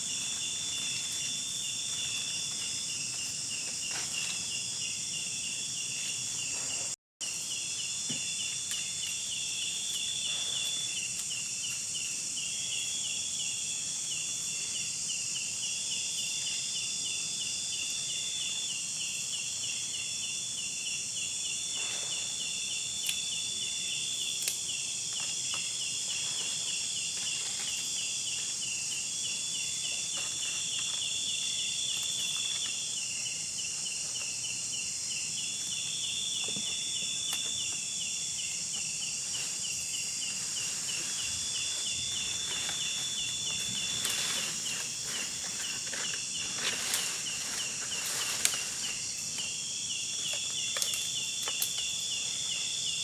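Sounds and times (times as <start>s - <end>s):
insects calling: 0.0s - 53.0s.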